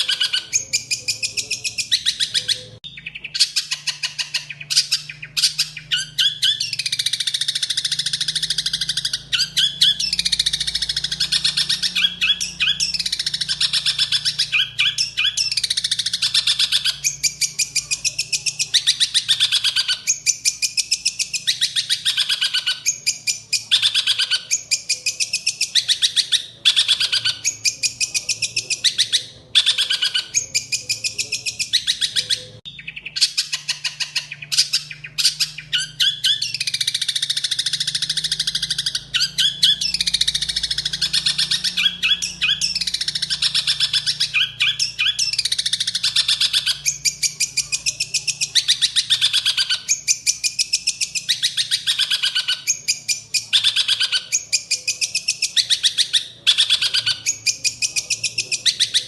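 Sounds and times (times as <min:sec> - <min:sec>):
songbird trilling: 0:00.0 - 0:59.0.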